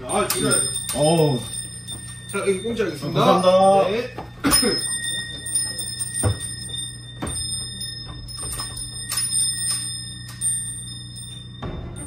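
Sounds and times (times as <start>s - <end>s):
high ringing tone: 0.0s - 12.0s
low steady hum: 0.0s - 12.0s.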